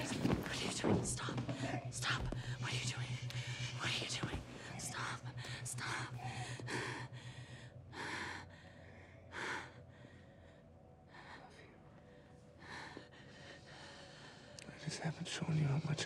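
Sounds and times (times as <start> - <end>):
person breathing heavily: 1.4 - 14.6.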